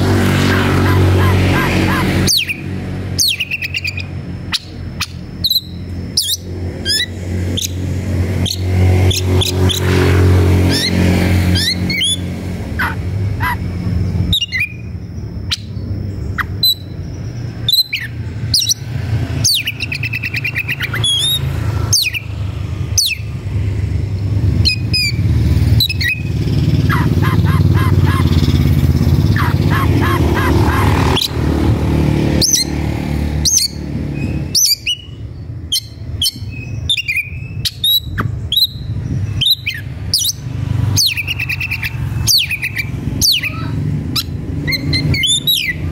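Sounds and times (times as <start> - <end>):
bird singing chirps and trills: 0.0 - 45.9.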